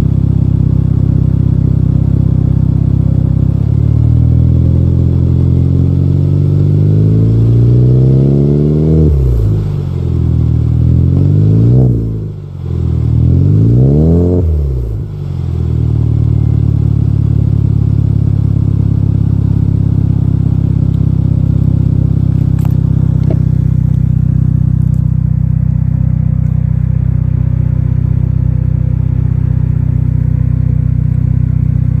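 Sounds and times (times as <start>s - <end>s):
turbocharged car engine revving: 0.0s - 32.0s.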